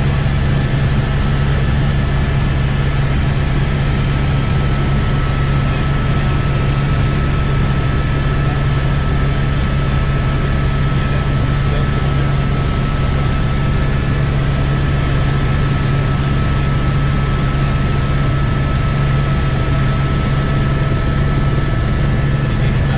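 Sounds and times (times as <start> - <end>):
helicopter rotor and engine drone: 0.0 - 22.9
thin steady whine: 0.0 - 22.9.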